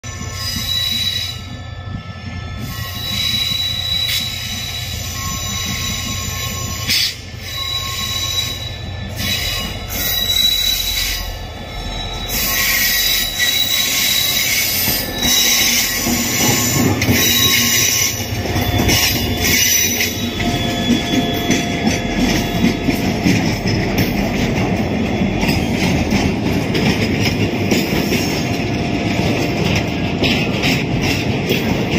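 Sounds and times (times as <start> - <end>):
high-pitched wheel squeal: 0.0 - 26.3
train wheels rolling on rails: 0.0 - 31.9
locomotive engine drone: 3.8 - 31.9.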